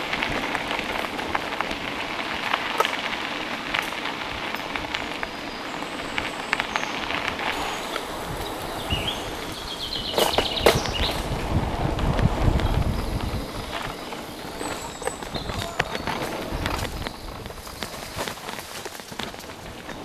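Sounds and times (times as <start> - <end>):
bike clicks and rattles: 0.0 - 20.0
bike tyres on dirt: 0.0 - 20.0.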